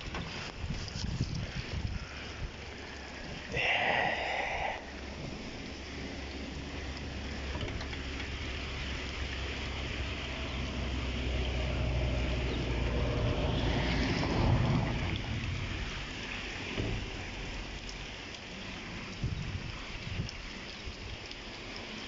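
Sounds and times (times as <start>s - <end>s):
wind rumbling on microphone: 0.0s - 18.2s, 18.8s - 21.4s
heavy rain on dirt road: 0.0s - 22.0s.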